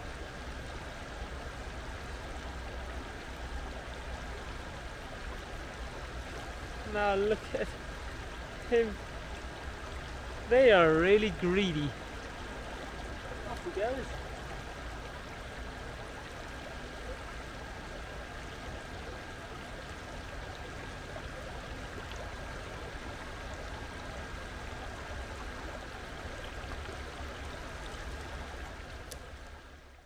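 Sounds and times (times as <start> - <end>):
stream water running: 0.0 - 30.0.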